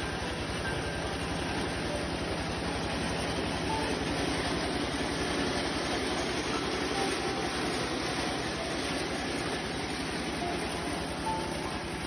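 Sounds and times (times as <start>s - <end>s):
harvester engine running: 0.0s - 12.0s
rush of machine noise: 0.0s - 12.0s.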